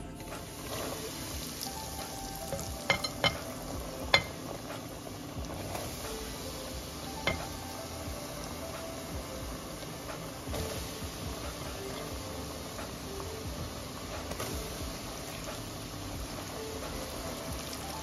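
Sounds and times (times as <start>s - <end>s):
fries sizzling in hot oil: 0.0s - 18.0s.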